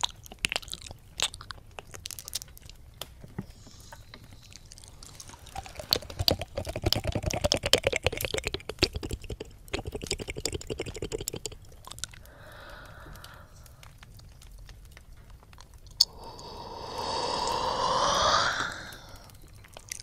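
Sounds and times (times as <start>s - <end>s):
wet mouth sounds: 0.0s - 2.8s, 3.5s - 14.6s, 15.5s - 20.0s.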